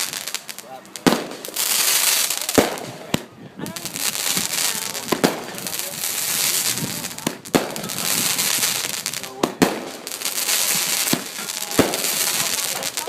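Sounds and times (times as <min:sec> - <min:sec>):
fireworks bangs: 0:00.0 - 0:13.0
fireworks hissing crackle: 0:00.0 - 0:13.0.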